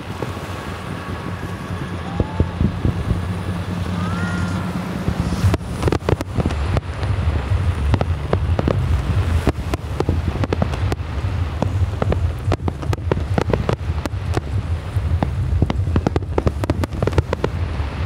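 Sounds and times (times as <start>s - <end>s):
fireworks bangs and crackles: 0.0s - 18.0s
low rumble: 0.0s - 18.0s.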